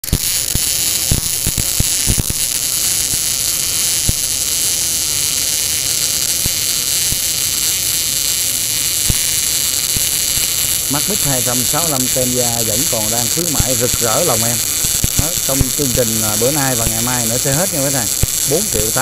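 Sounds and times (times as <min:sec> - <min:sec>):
sharp welding pops: 0:00.0 - 0:19.0
welder low hum: 0:00.0 - 0:19.0
welding arc hissing crackle: 0:00.0 - 0:19.0.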